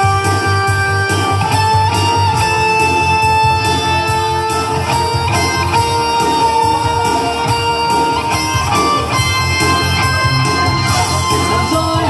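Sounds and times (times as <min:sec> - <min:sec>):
drum beat and bass: 0:00.0 - 0:12.0
electric guitar: 0:00.0 - 0:12.0
keyboard: 0:00.0 - 0:12.0.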